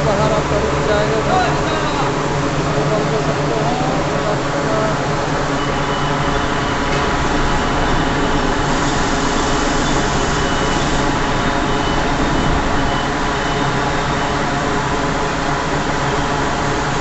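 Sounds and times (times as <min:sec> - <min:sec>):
industrial machinery din: 0:00.0 - 0:17.0.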